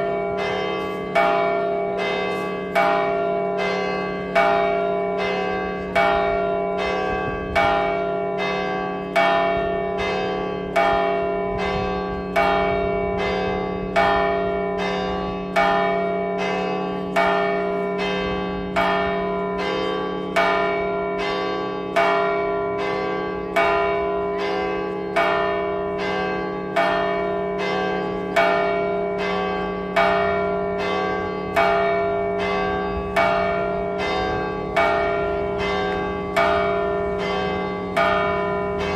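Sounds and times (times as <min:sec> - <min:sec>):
church bell ringing: 0:00.0 - 0:38.9.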